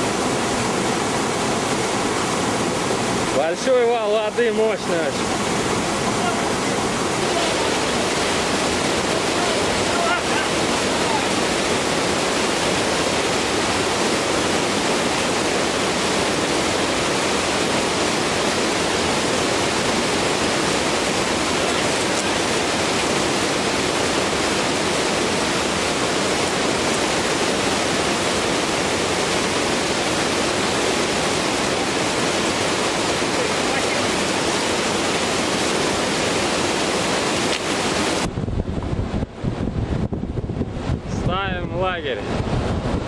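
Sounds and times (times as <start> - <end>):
river rushing over rocks: 0.0 - 43.0.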